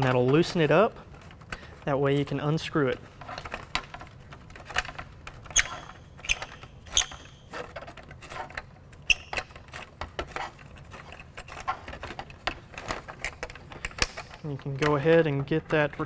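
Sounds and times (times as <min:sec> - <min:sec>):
scrapes and rattles of metal: 0:00.0 - 0:16.0.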